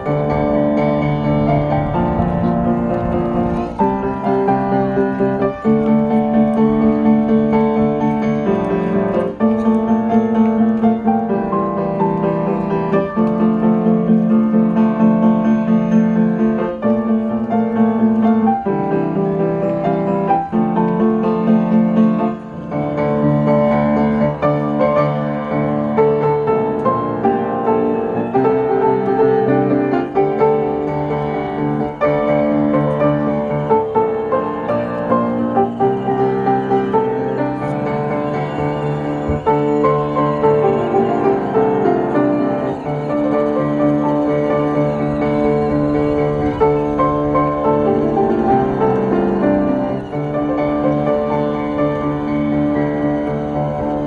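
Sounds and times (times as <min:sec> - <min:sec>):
piano playing slow ballad: 0:00.0 - 0:54.0.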